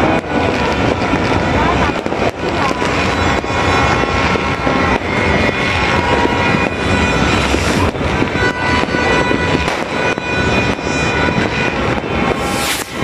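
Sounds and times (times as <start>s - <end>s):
fireworks rumble and crackle: 0.0s - 13.0s
sharp firework reports: 0.0s - 13.0s.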